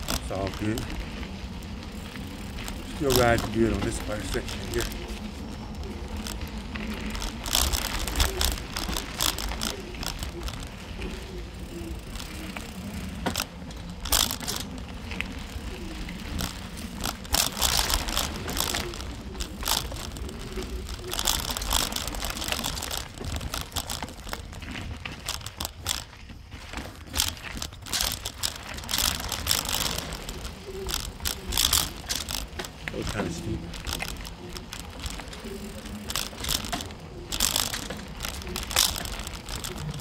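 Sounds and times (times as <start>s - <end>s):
bike clattering and rattling: 0.0s - 40.0s
bike tyres crunching over dirt: 0.0s - 40.0s.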